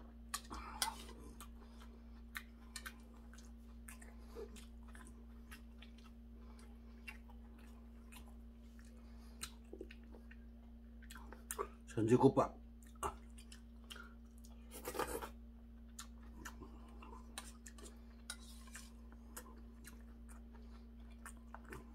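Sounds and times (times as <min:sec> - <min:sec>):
man chewing: 0:00.0 - 0:11.9, 0:12.8 - 0:21.9
steady low hum: 0:00.0 - 0:21.9.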